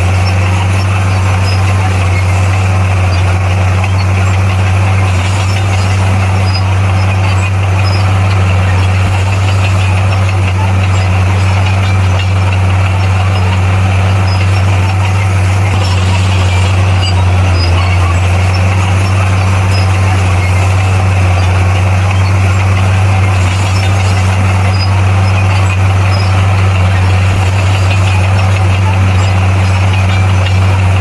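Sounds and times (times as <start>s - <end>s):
heavy diesel engine droning: 0.0s - 31.0s.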